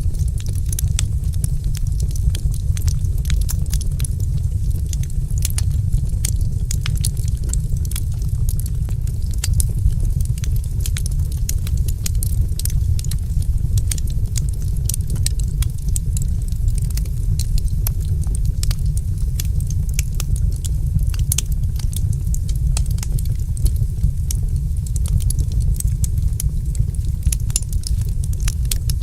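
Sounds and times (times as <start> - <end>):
fire crackling: 0.0 - 29.0
low fire rumble: 0.0 - 29.0.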